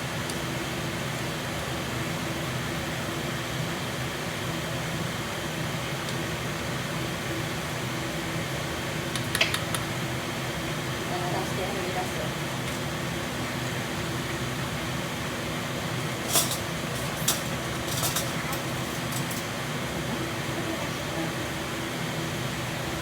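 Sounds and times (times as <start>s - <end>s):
kitchen exhaust fan humming: 0.0s - 23.0s.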